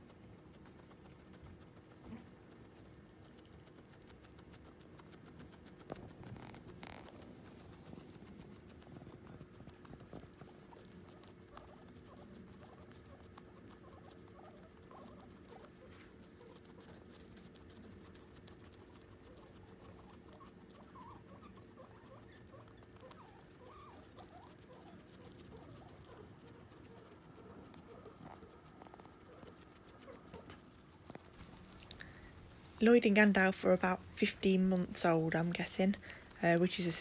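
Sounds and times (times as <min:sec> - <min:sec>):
guinea pigs chewing: 0:00.0 - 0:37.0.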